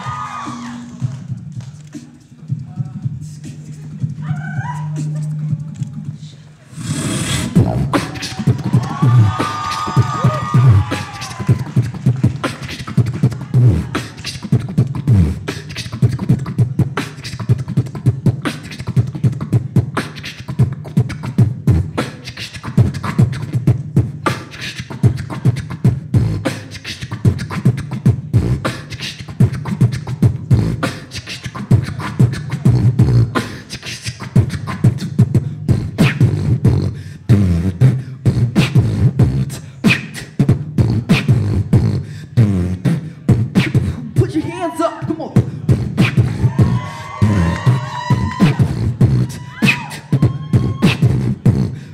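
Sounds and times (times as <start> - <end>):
beatboxing vocal drum hits: 0.4 - 44.4, 45.0 - 51.9.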